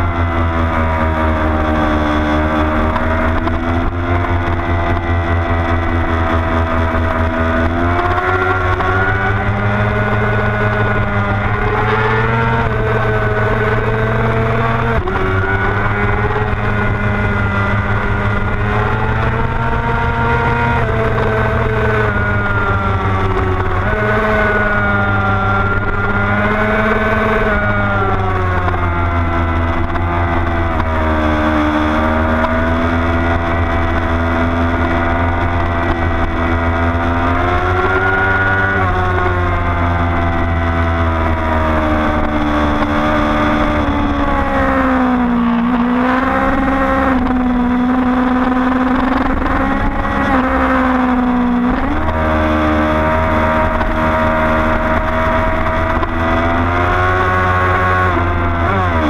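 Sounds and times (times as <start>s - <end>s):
motorcycle engine at speed: 0.0s - 59.0s
wind rumble on microphone: 0.0s - 59.0s.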